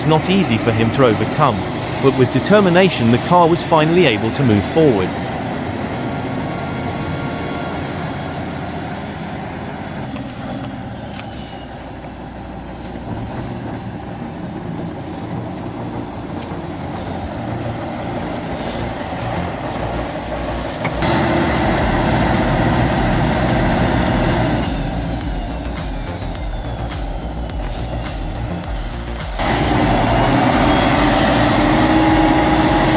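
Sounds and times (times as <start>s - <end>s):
heavy vehicle engine under load: 0.0s - 32.9s.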